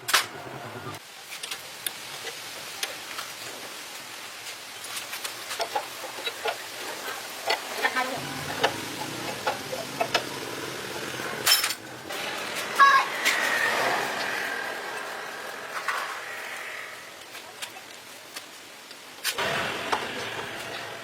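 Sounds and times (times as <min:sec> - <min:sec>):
steady hiss: 0:01.0 - 0:21.0.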